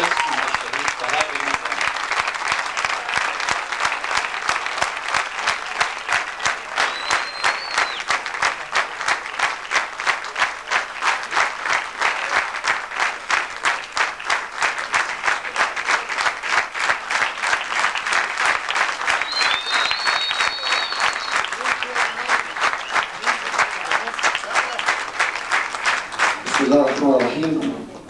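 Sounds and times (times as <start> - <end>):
audience clapping in unison: 0.0 - 28.0.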